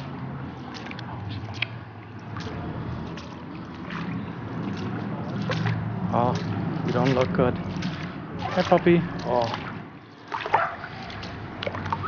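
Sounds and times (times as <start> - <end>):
footsteps splashing in water: 0.0 - 12.0.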